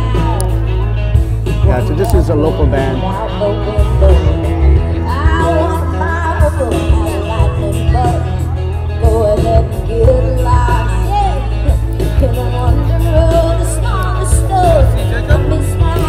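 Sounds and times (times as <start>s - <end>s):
woman singing into a microphone: 0.0s - 1.0s, 3.0s - 16.0s
drums: 0.0s - 16.0s
electric guitars: 0.0s - 16.0s
heavy bass line: 0.0s - 16.0s
keyboard: 0.0s - 16.0s.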